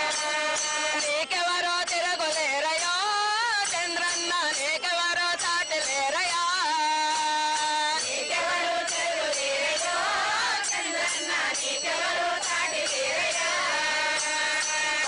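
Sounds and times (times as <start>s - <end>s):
sharp rhythmic beats: 0.0s - 15.0s
women singing in chorus: 0.0s - 15.0s.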